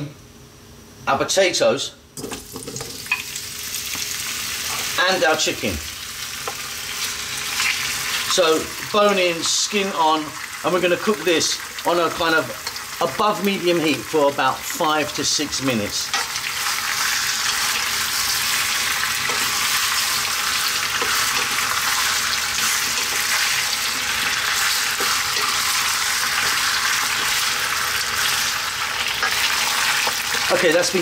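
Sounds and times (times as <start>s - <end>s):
food sizzling in oil: 2.2s - 31.0s.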